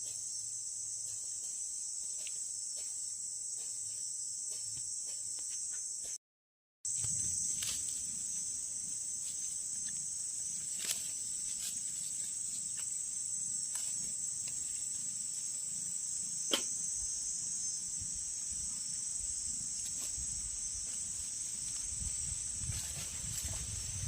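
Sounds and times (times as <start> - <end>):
crickets chirping: 0.0 - 6.2, 6.9 - 24.0.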